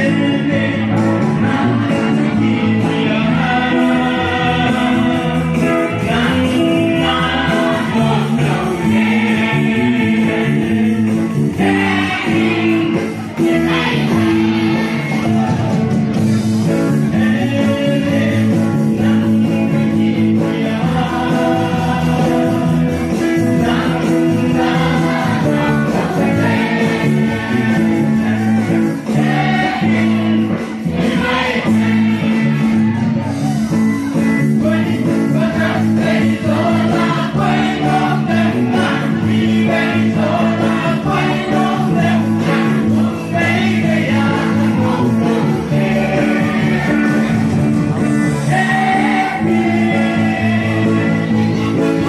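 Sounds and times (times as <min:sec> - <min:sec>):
lead vocal singing: 0:00.0 - 0:52.0
live band playing: 0:00.0 - 0:52.0.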